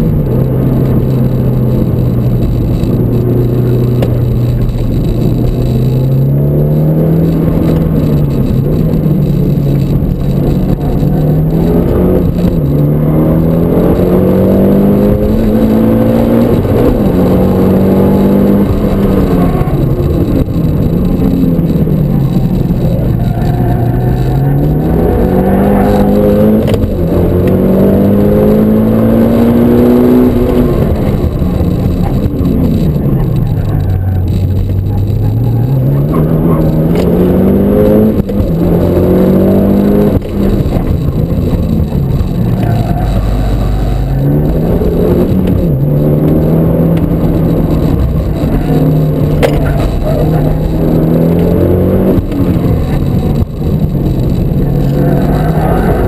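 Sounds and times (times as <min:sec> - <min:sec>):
car engine revving in cabin: 0:00.0 - 0:56.0.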